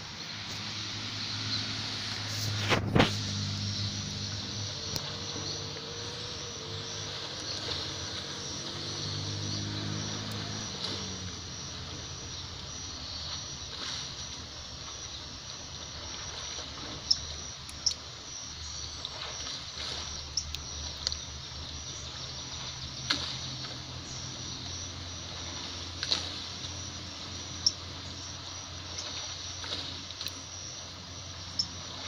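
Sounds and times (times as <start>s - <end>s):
underwater river water hiss: 0.0s - 32.0s.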